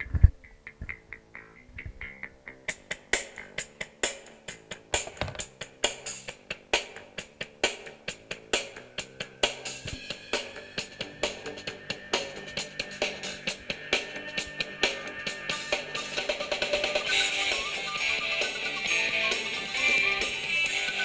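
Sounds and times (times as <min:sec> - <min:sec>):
soundtrack music with drum beat: 0:02.7 - 0:21.0.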